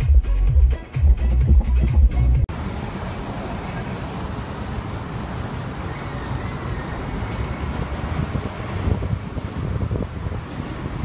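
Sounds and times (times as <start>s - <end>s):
road noise: 0.0s - 11.0s
wind: 0.0s - 11.0s
vehicle rumble: 0.6s - 11.0s.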